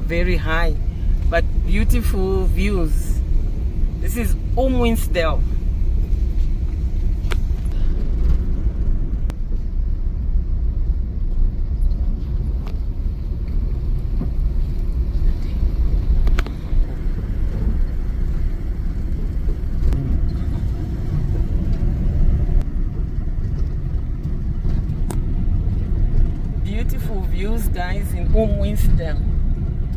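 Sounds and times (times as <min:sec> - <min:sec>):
car engine and tyres rumbling: 0:00.0 - 0:29.9.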